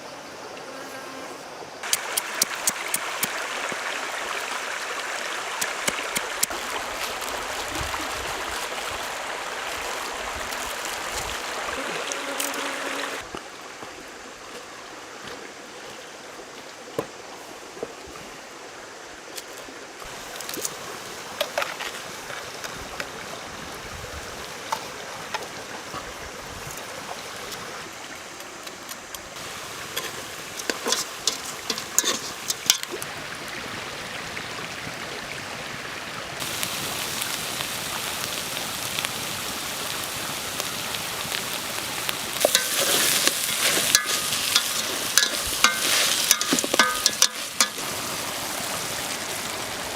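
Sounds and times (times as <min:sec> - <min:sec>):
rush of running water: 0:01.4 - 0:49.9.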